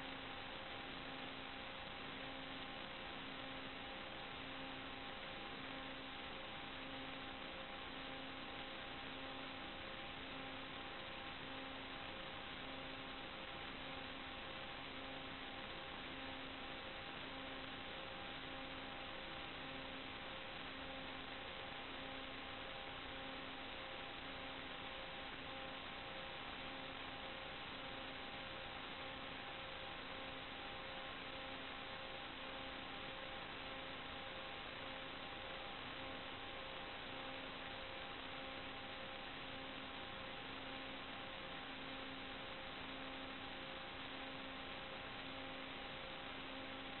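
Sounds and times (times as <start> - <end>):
faint hum tones: 0.0 - 47.0
steady electrical hiss: 0.0 - 47.0.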